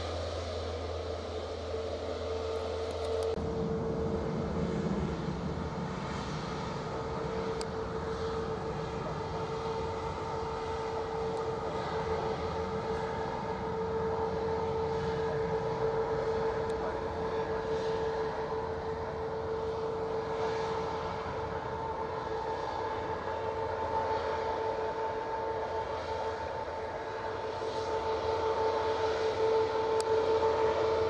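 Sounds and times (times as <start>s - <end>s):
jet engines whining: 0.0s - 31.0s.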